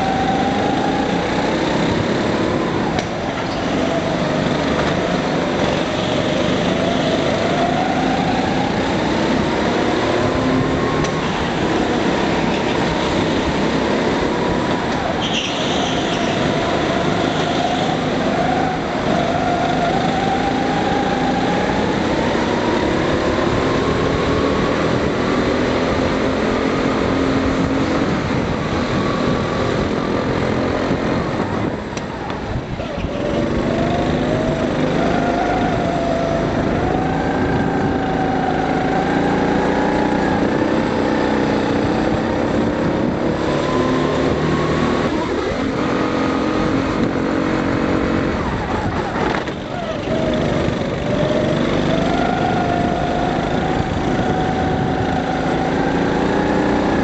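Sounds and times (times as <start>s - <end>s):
go-kart engine racing: 0.0s - 57.0s.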